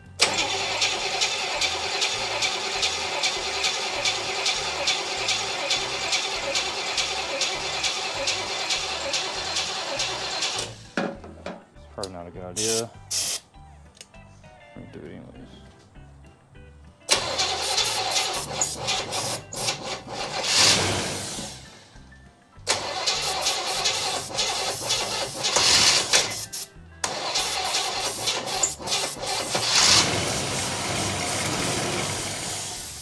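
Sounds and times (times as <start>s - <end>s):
engine cranking by starter: 0.0s - 13.4s, 17.0s - 33.0s.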